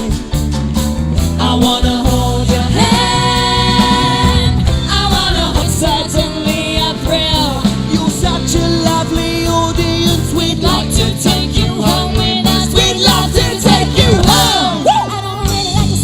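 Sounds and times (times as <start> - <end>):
live rock and roll band: 0.0 - 16.0.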